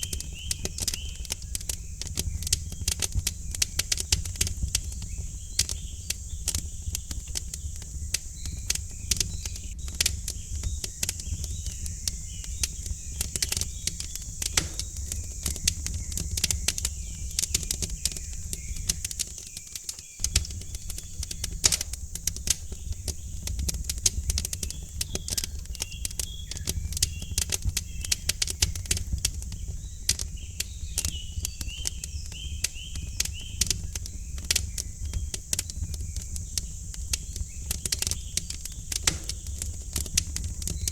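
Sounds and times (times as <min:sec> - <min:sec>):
birds chirping faintly: 0:00.0 - 0:40.9
wood fire crackling: 0:00.0 - 0:40.9.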